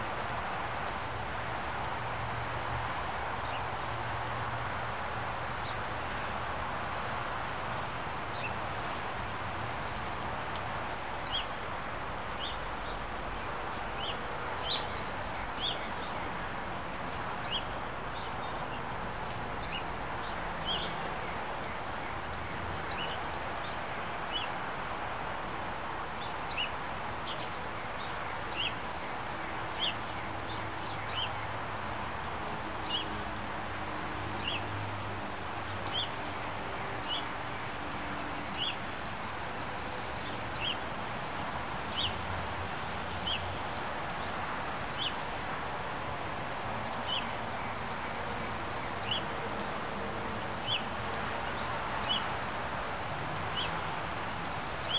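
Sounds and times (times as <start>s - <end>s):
rain hiss: 0.0s - 54.9s.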